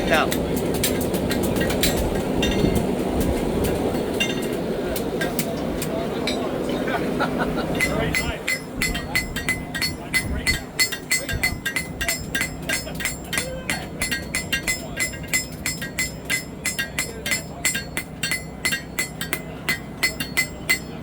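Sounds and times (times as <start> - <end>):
hammer striking steel on anvil: 0.1 - 4.6, 7.7 - 21.0.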